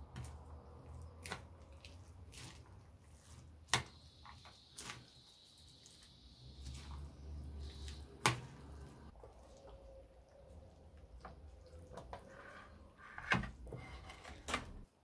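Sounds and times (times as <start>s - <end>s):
spatula stirring wet food: 0.0s - 14.6s.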